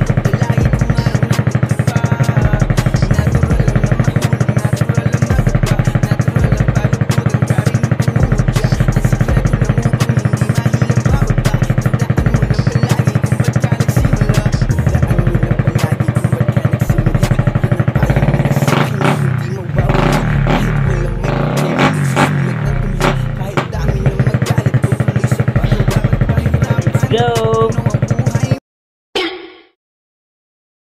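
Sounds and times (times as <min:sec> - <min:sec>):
motorcycle engine idling: 0:00.0 - 0:28.6.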